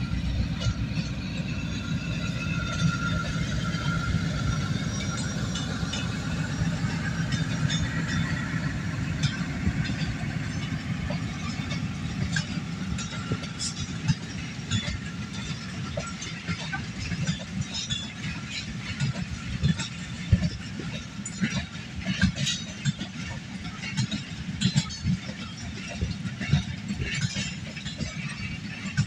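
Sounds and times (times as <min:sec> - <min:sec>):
passenger train rumbling: 0:00.0 - 0:29.0.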